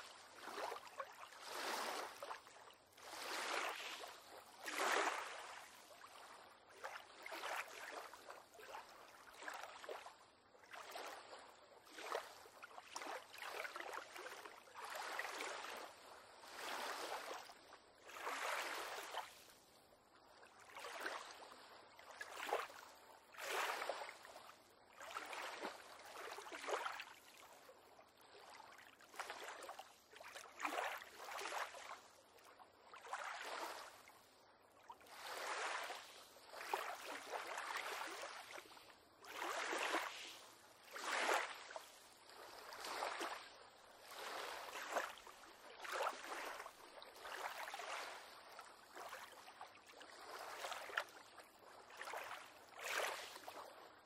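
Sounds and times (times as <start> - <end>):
small waves lapping against pier: 0.0 - 54.0.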